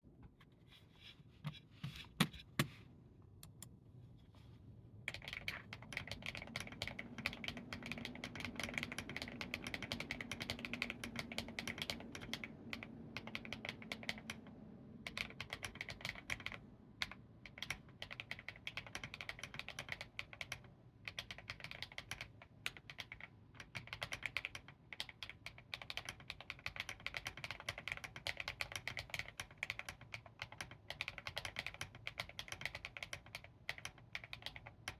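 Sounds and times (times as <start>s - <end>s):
mechanical keyboard typing: 5.1s - 34.9s.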